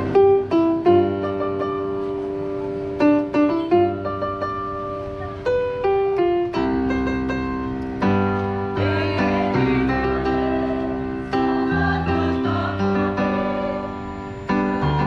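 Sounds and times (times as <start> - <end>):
keyboard playing: 0.0 - 15.0.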